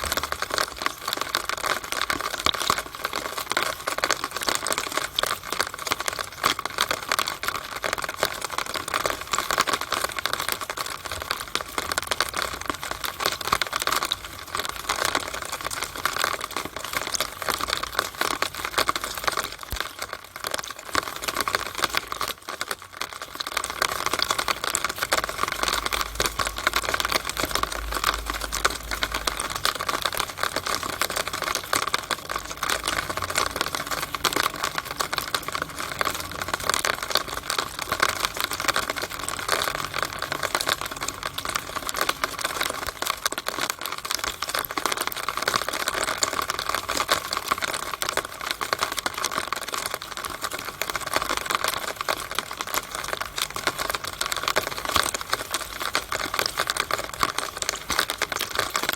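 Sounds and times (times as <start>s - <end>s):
rainwater dripping from downspout: 0.0s - 58.9s.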